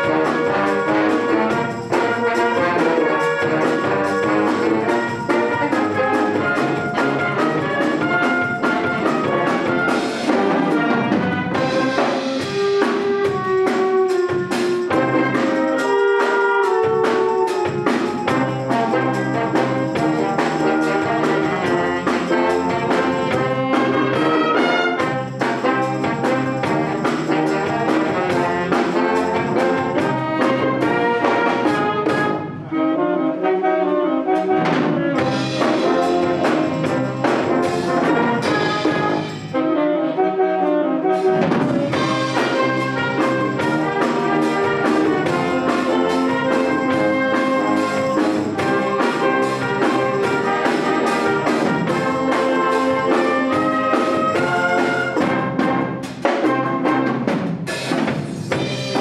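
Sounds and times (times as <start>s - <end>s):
concert wind band playing: 0.0s - 59.0s.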